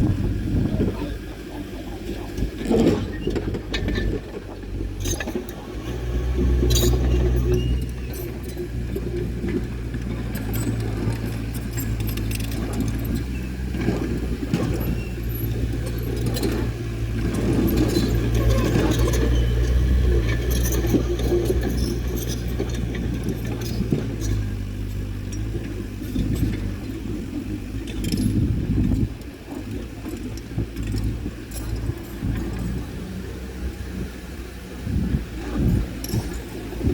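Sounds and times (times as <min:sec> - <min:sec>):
bulldozer engine running: 0:00.0 - 0:36.9
steel tracks clinking and rattling: 0:00.0 - 0:36.9.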